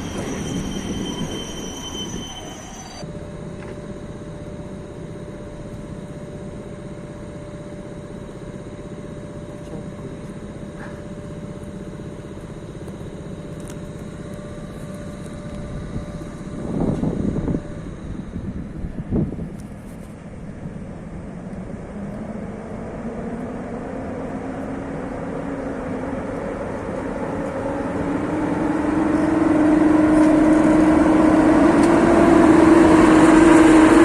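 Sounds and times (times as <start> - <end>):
train rumbling: 0.0 - 34.0
mid-pitched hum: 3.0 - 33.4.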